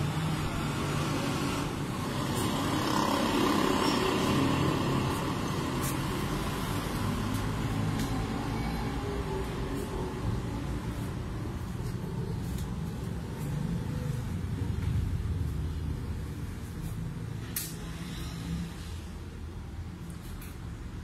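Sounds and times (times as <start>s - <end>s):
road traffic rumble: 0.0s - 21.0s
vehicles passing: 0.0s - 21.0s.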